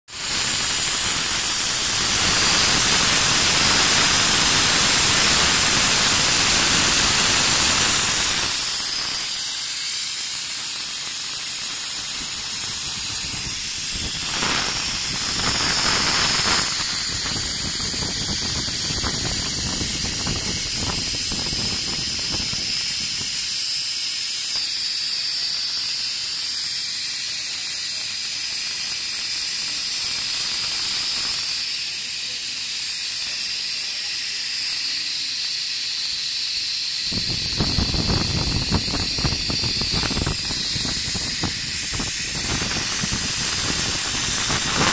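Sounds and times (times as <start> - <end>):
compressed gas hissing: 0.1 - 44.9.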